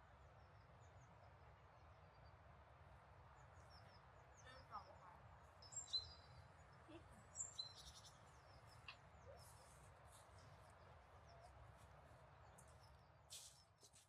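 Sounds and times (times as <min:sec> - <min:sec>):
faint low background noise: 0:00.0 - 0:14.0.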